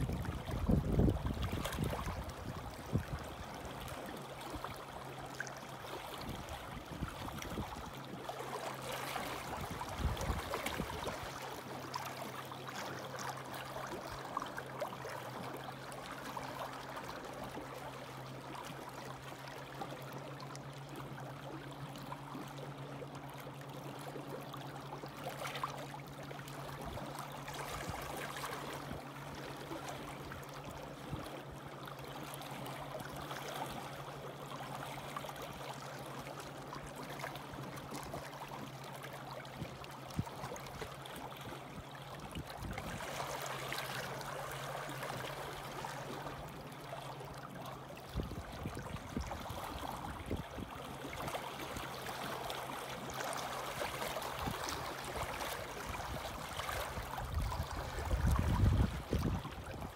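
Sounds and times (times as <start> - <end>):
waves lapping against rocks: 0.0 - 59.9.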